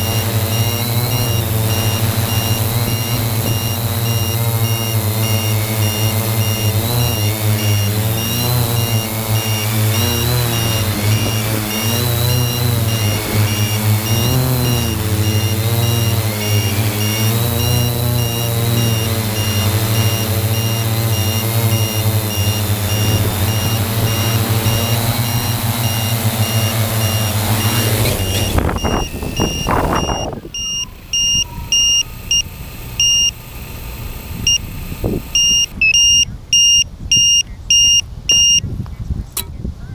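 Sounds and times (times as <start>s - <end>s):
high-pitched electronic beeping: 0.0s - 33.4s, 34.4s - 38.6s
drone motors and propellers droning: 0.0s - 38.6s.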